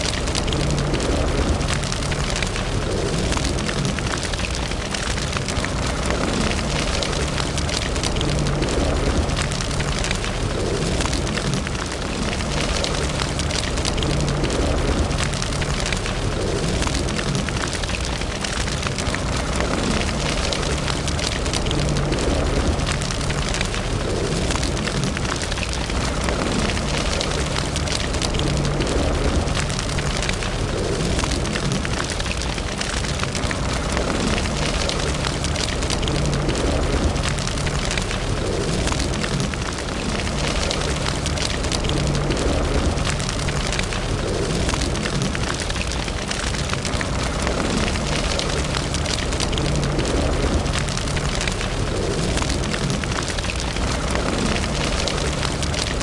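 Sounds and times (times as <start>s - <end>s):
low rush of flames: 0.0s - 56.0s
wood fire crackling: 0.0s - 56.0s.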